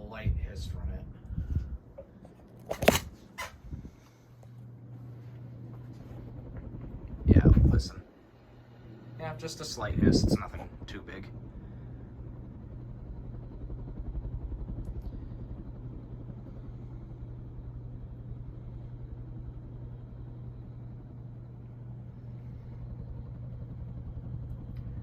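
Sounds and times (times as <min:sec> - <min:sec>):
ceiling fan motor hum: 0:00.0 - 0:25.0
rumble of moving air: 0:00.0 - 0:25.0.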